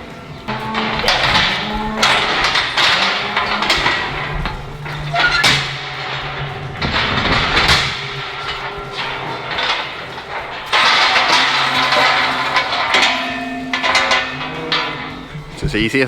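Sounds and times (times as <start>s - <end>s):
metal gates clanging: 0.0s - 16.0s.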